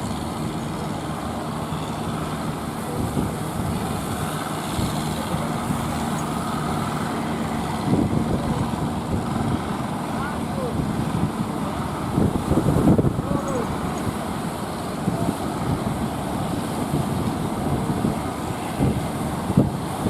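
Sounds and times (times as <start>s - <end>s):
boat engine running: 0.0s - 20.0s
wind and water hiss: 0.0s - 20.0s.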